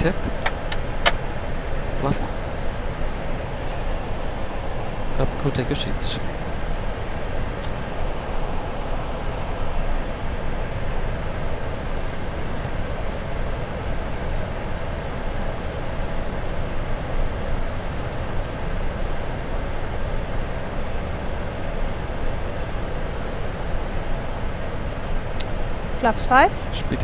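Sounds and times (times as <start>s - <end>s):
cockpit ventilation: 0.0s - 27.0s.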